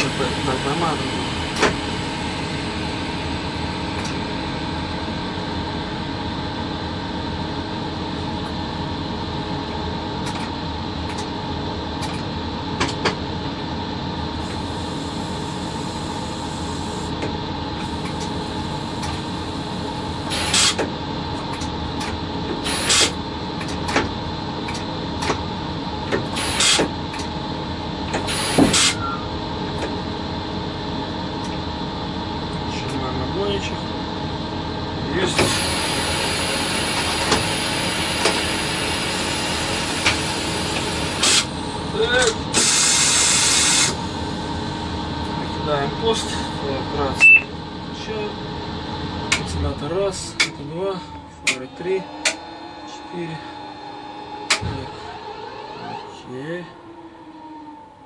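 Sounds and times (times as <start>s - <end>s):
electric locomotive machinery hum: 0.0s - 58.0s.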